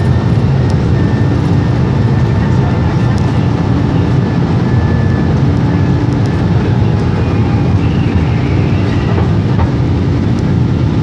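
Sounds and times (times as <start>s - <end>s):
jet engines and airflow in cabin: 0.0s - 11.0s.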